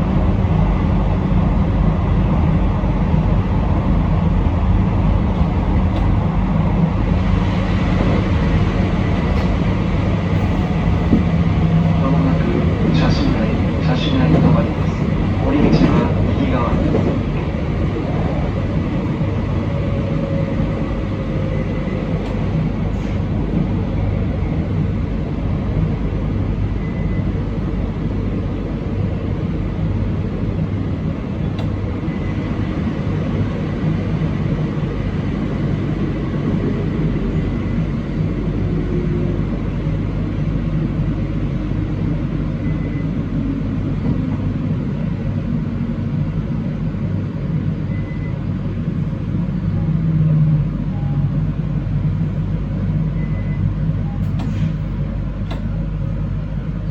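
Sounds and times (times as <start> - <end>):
train wheels rumbling on track: 0.0 - 56.9.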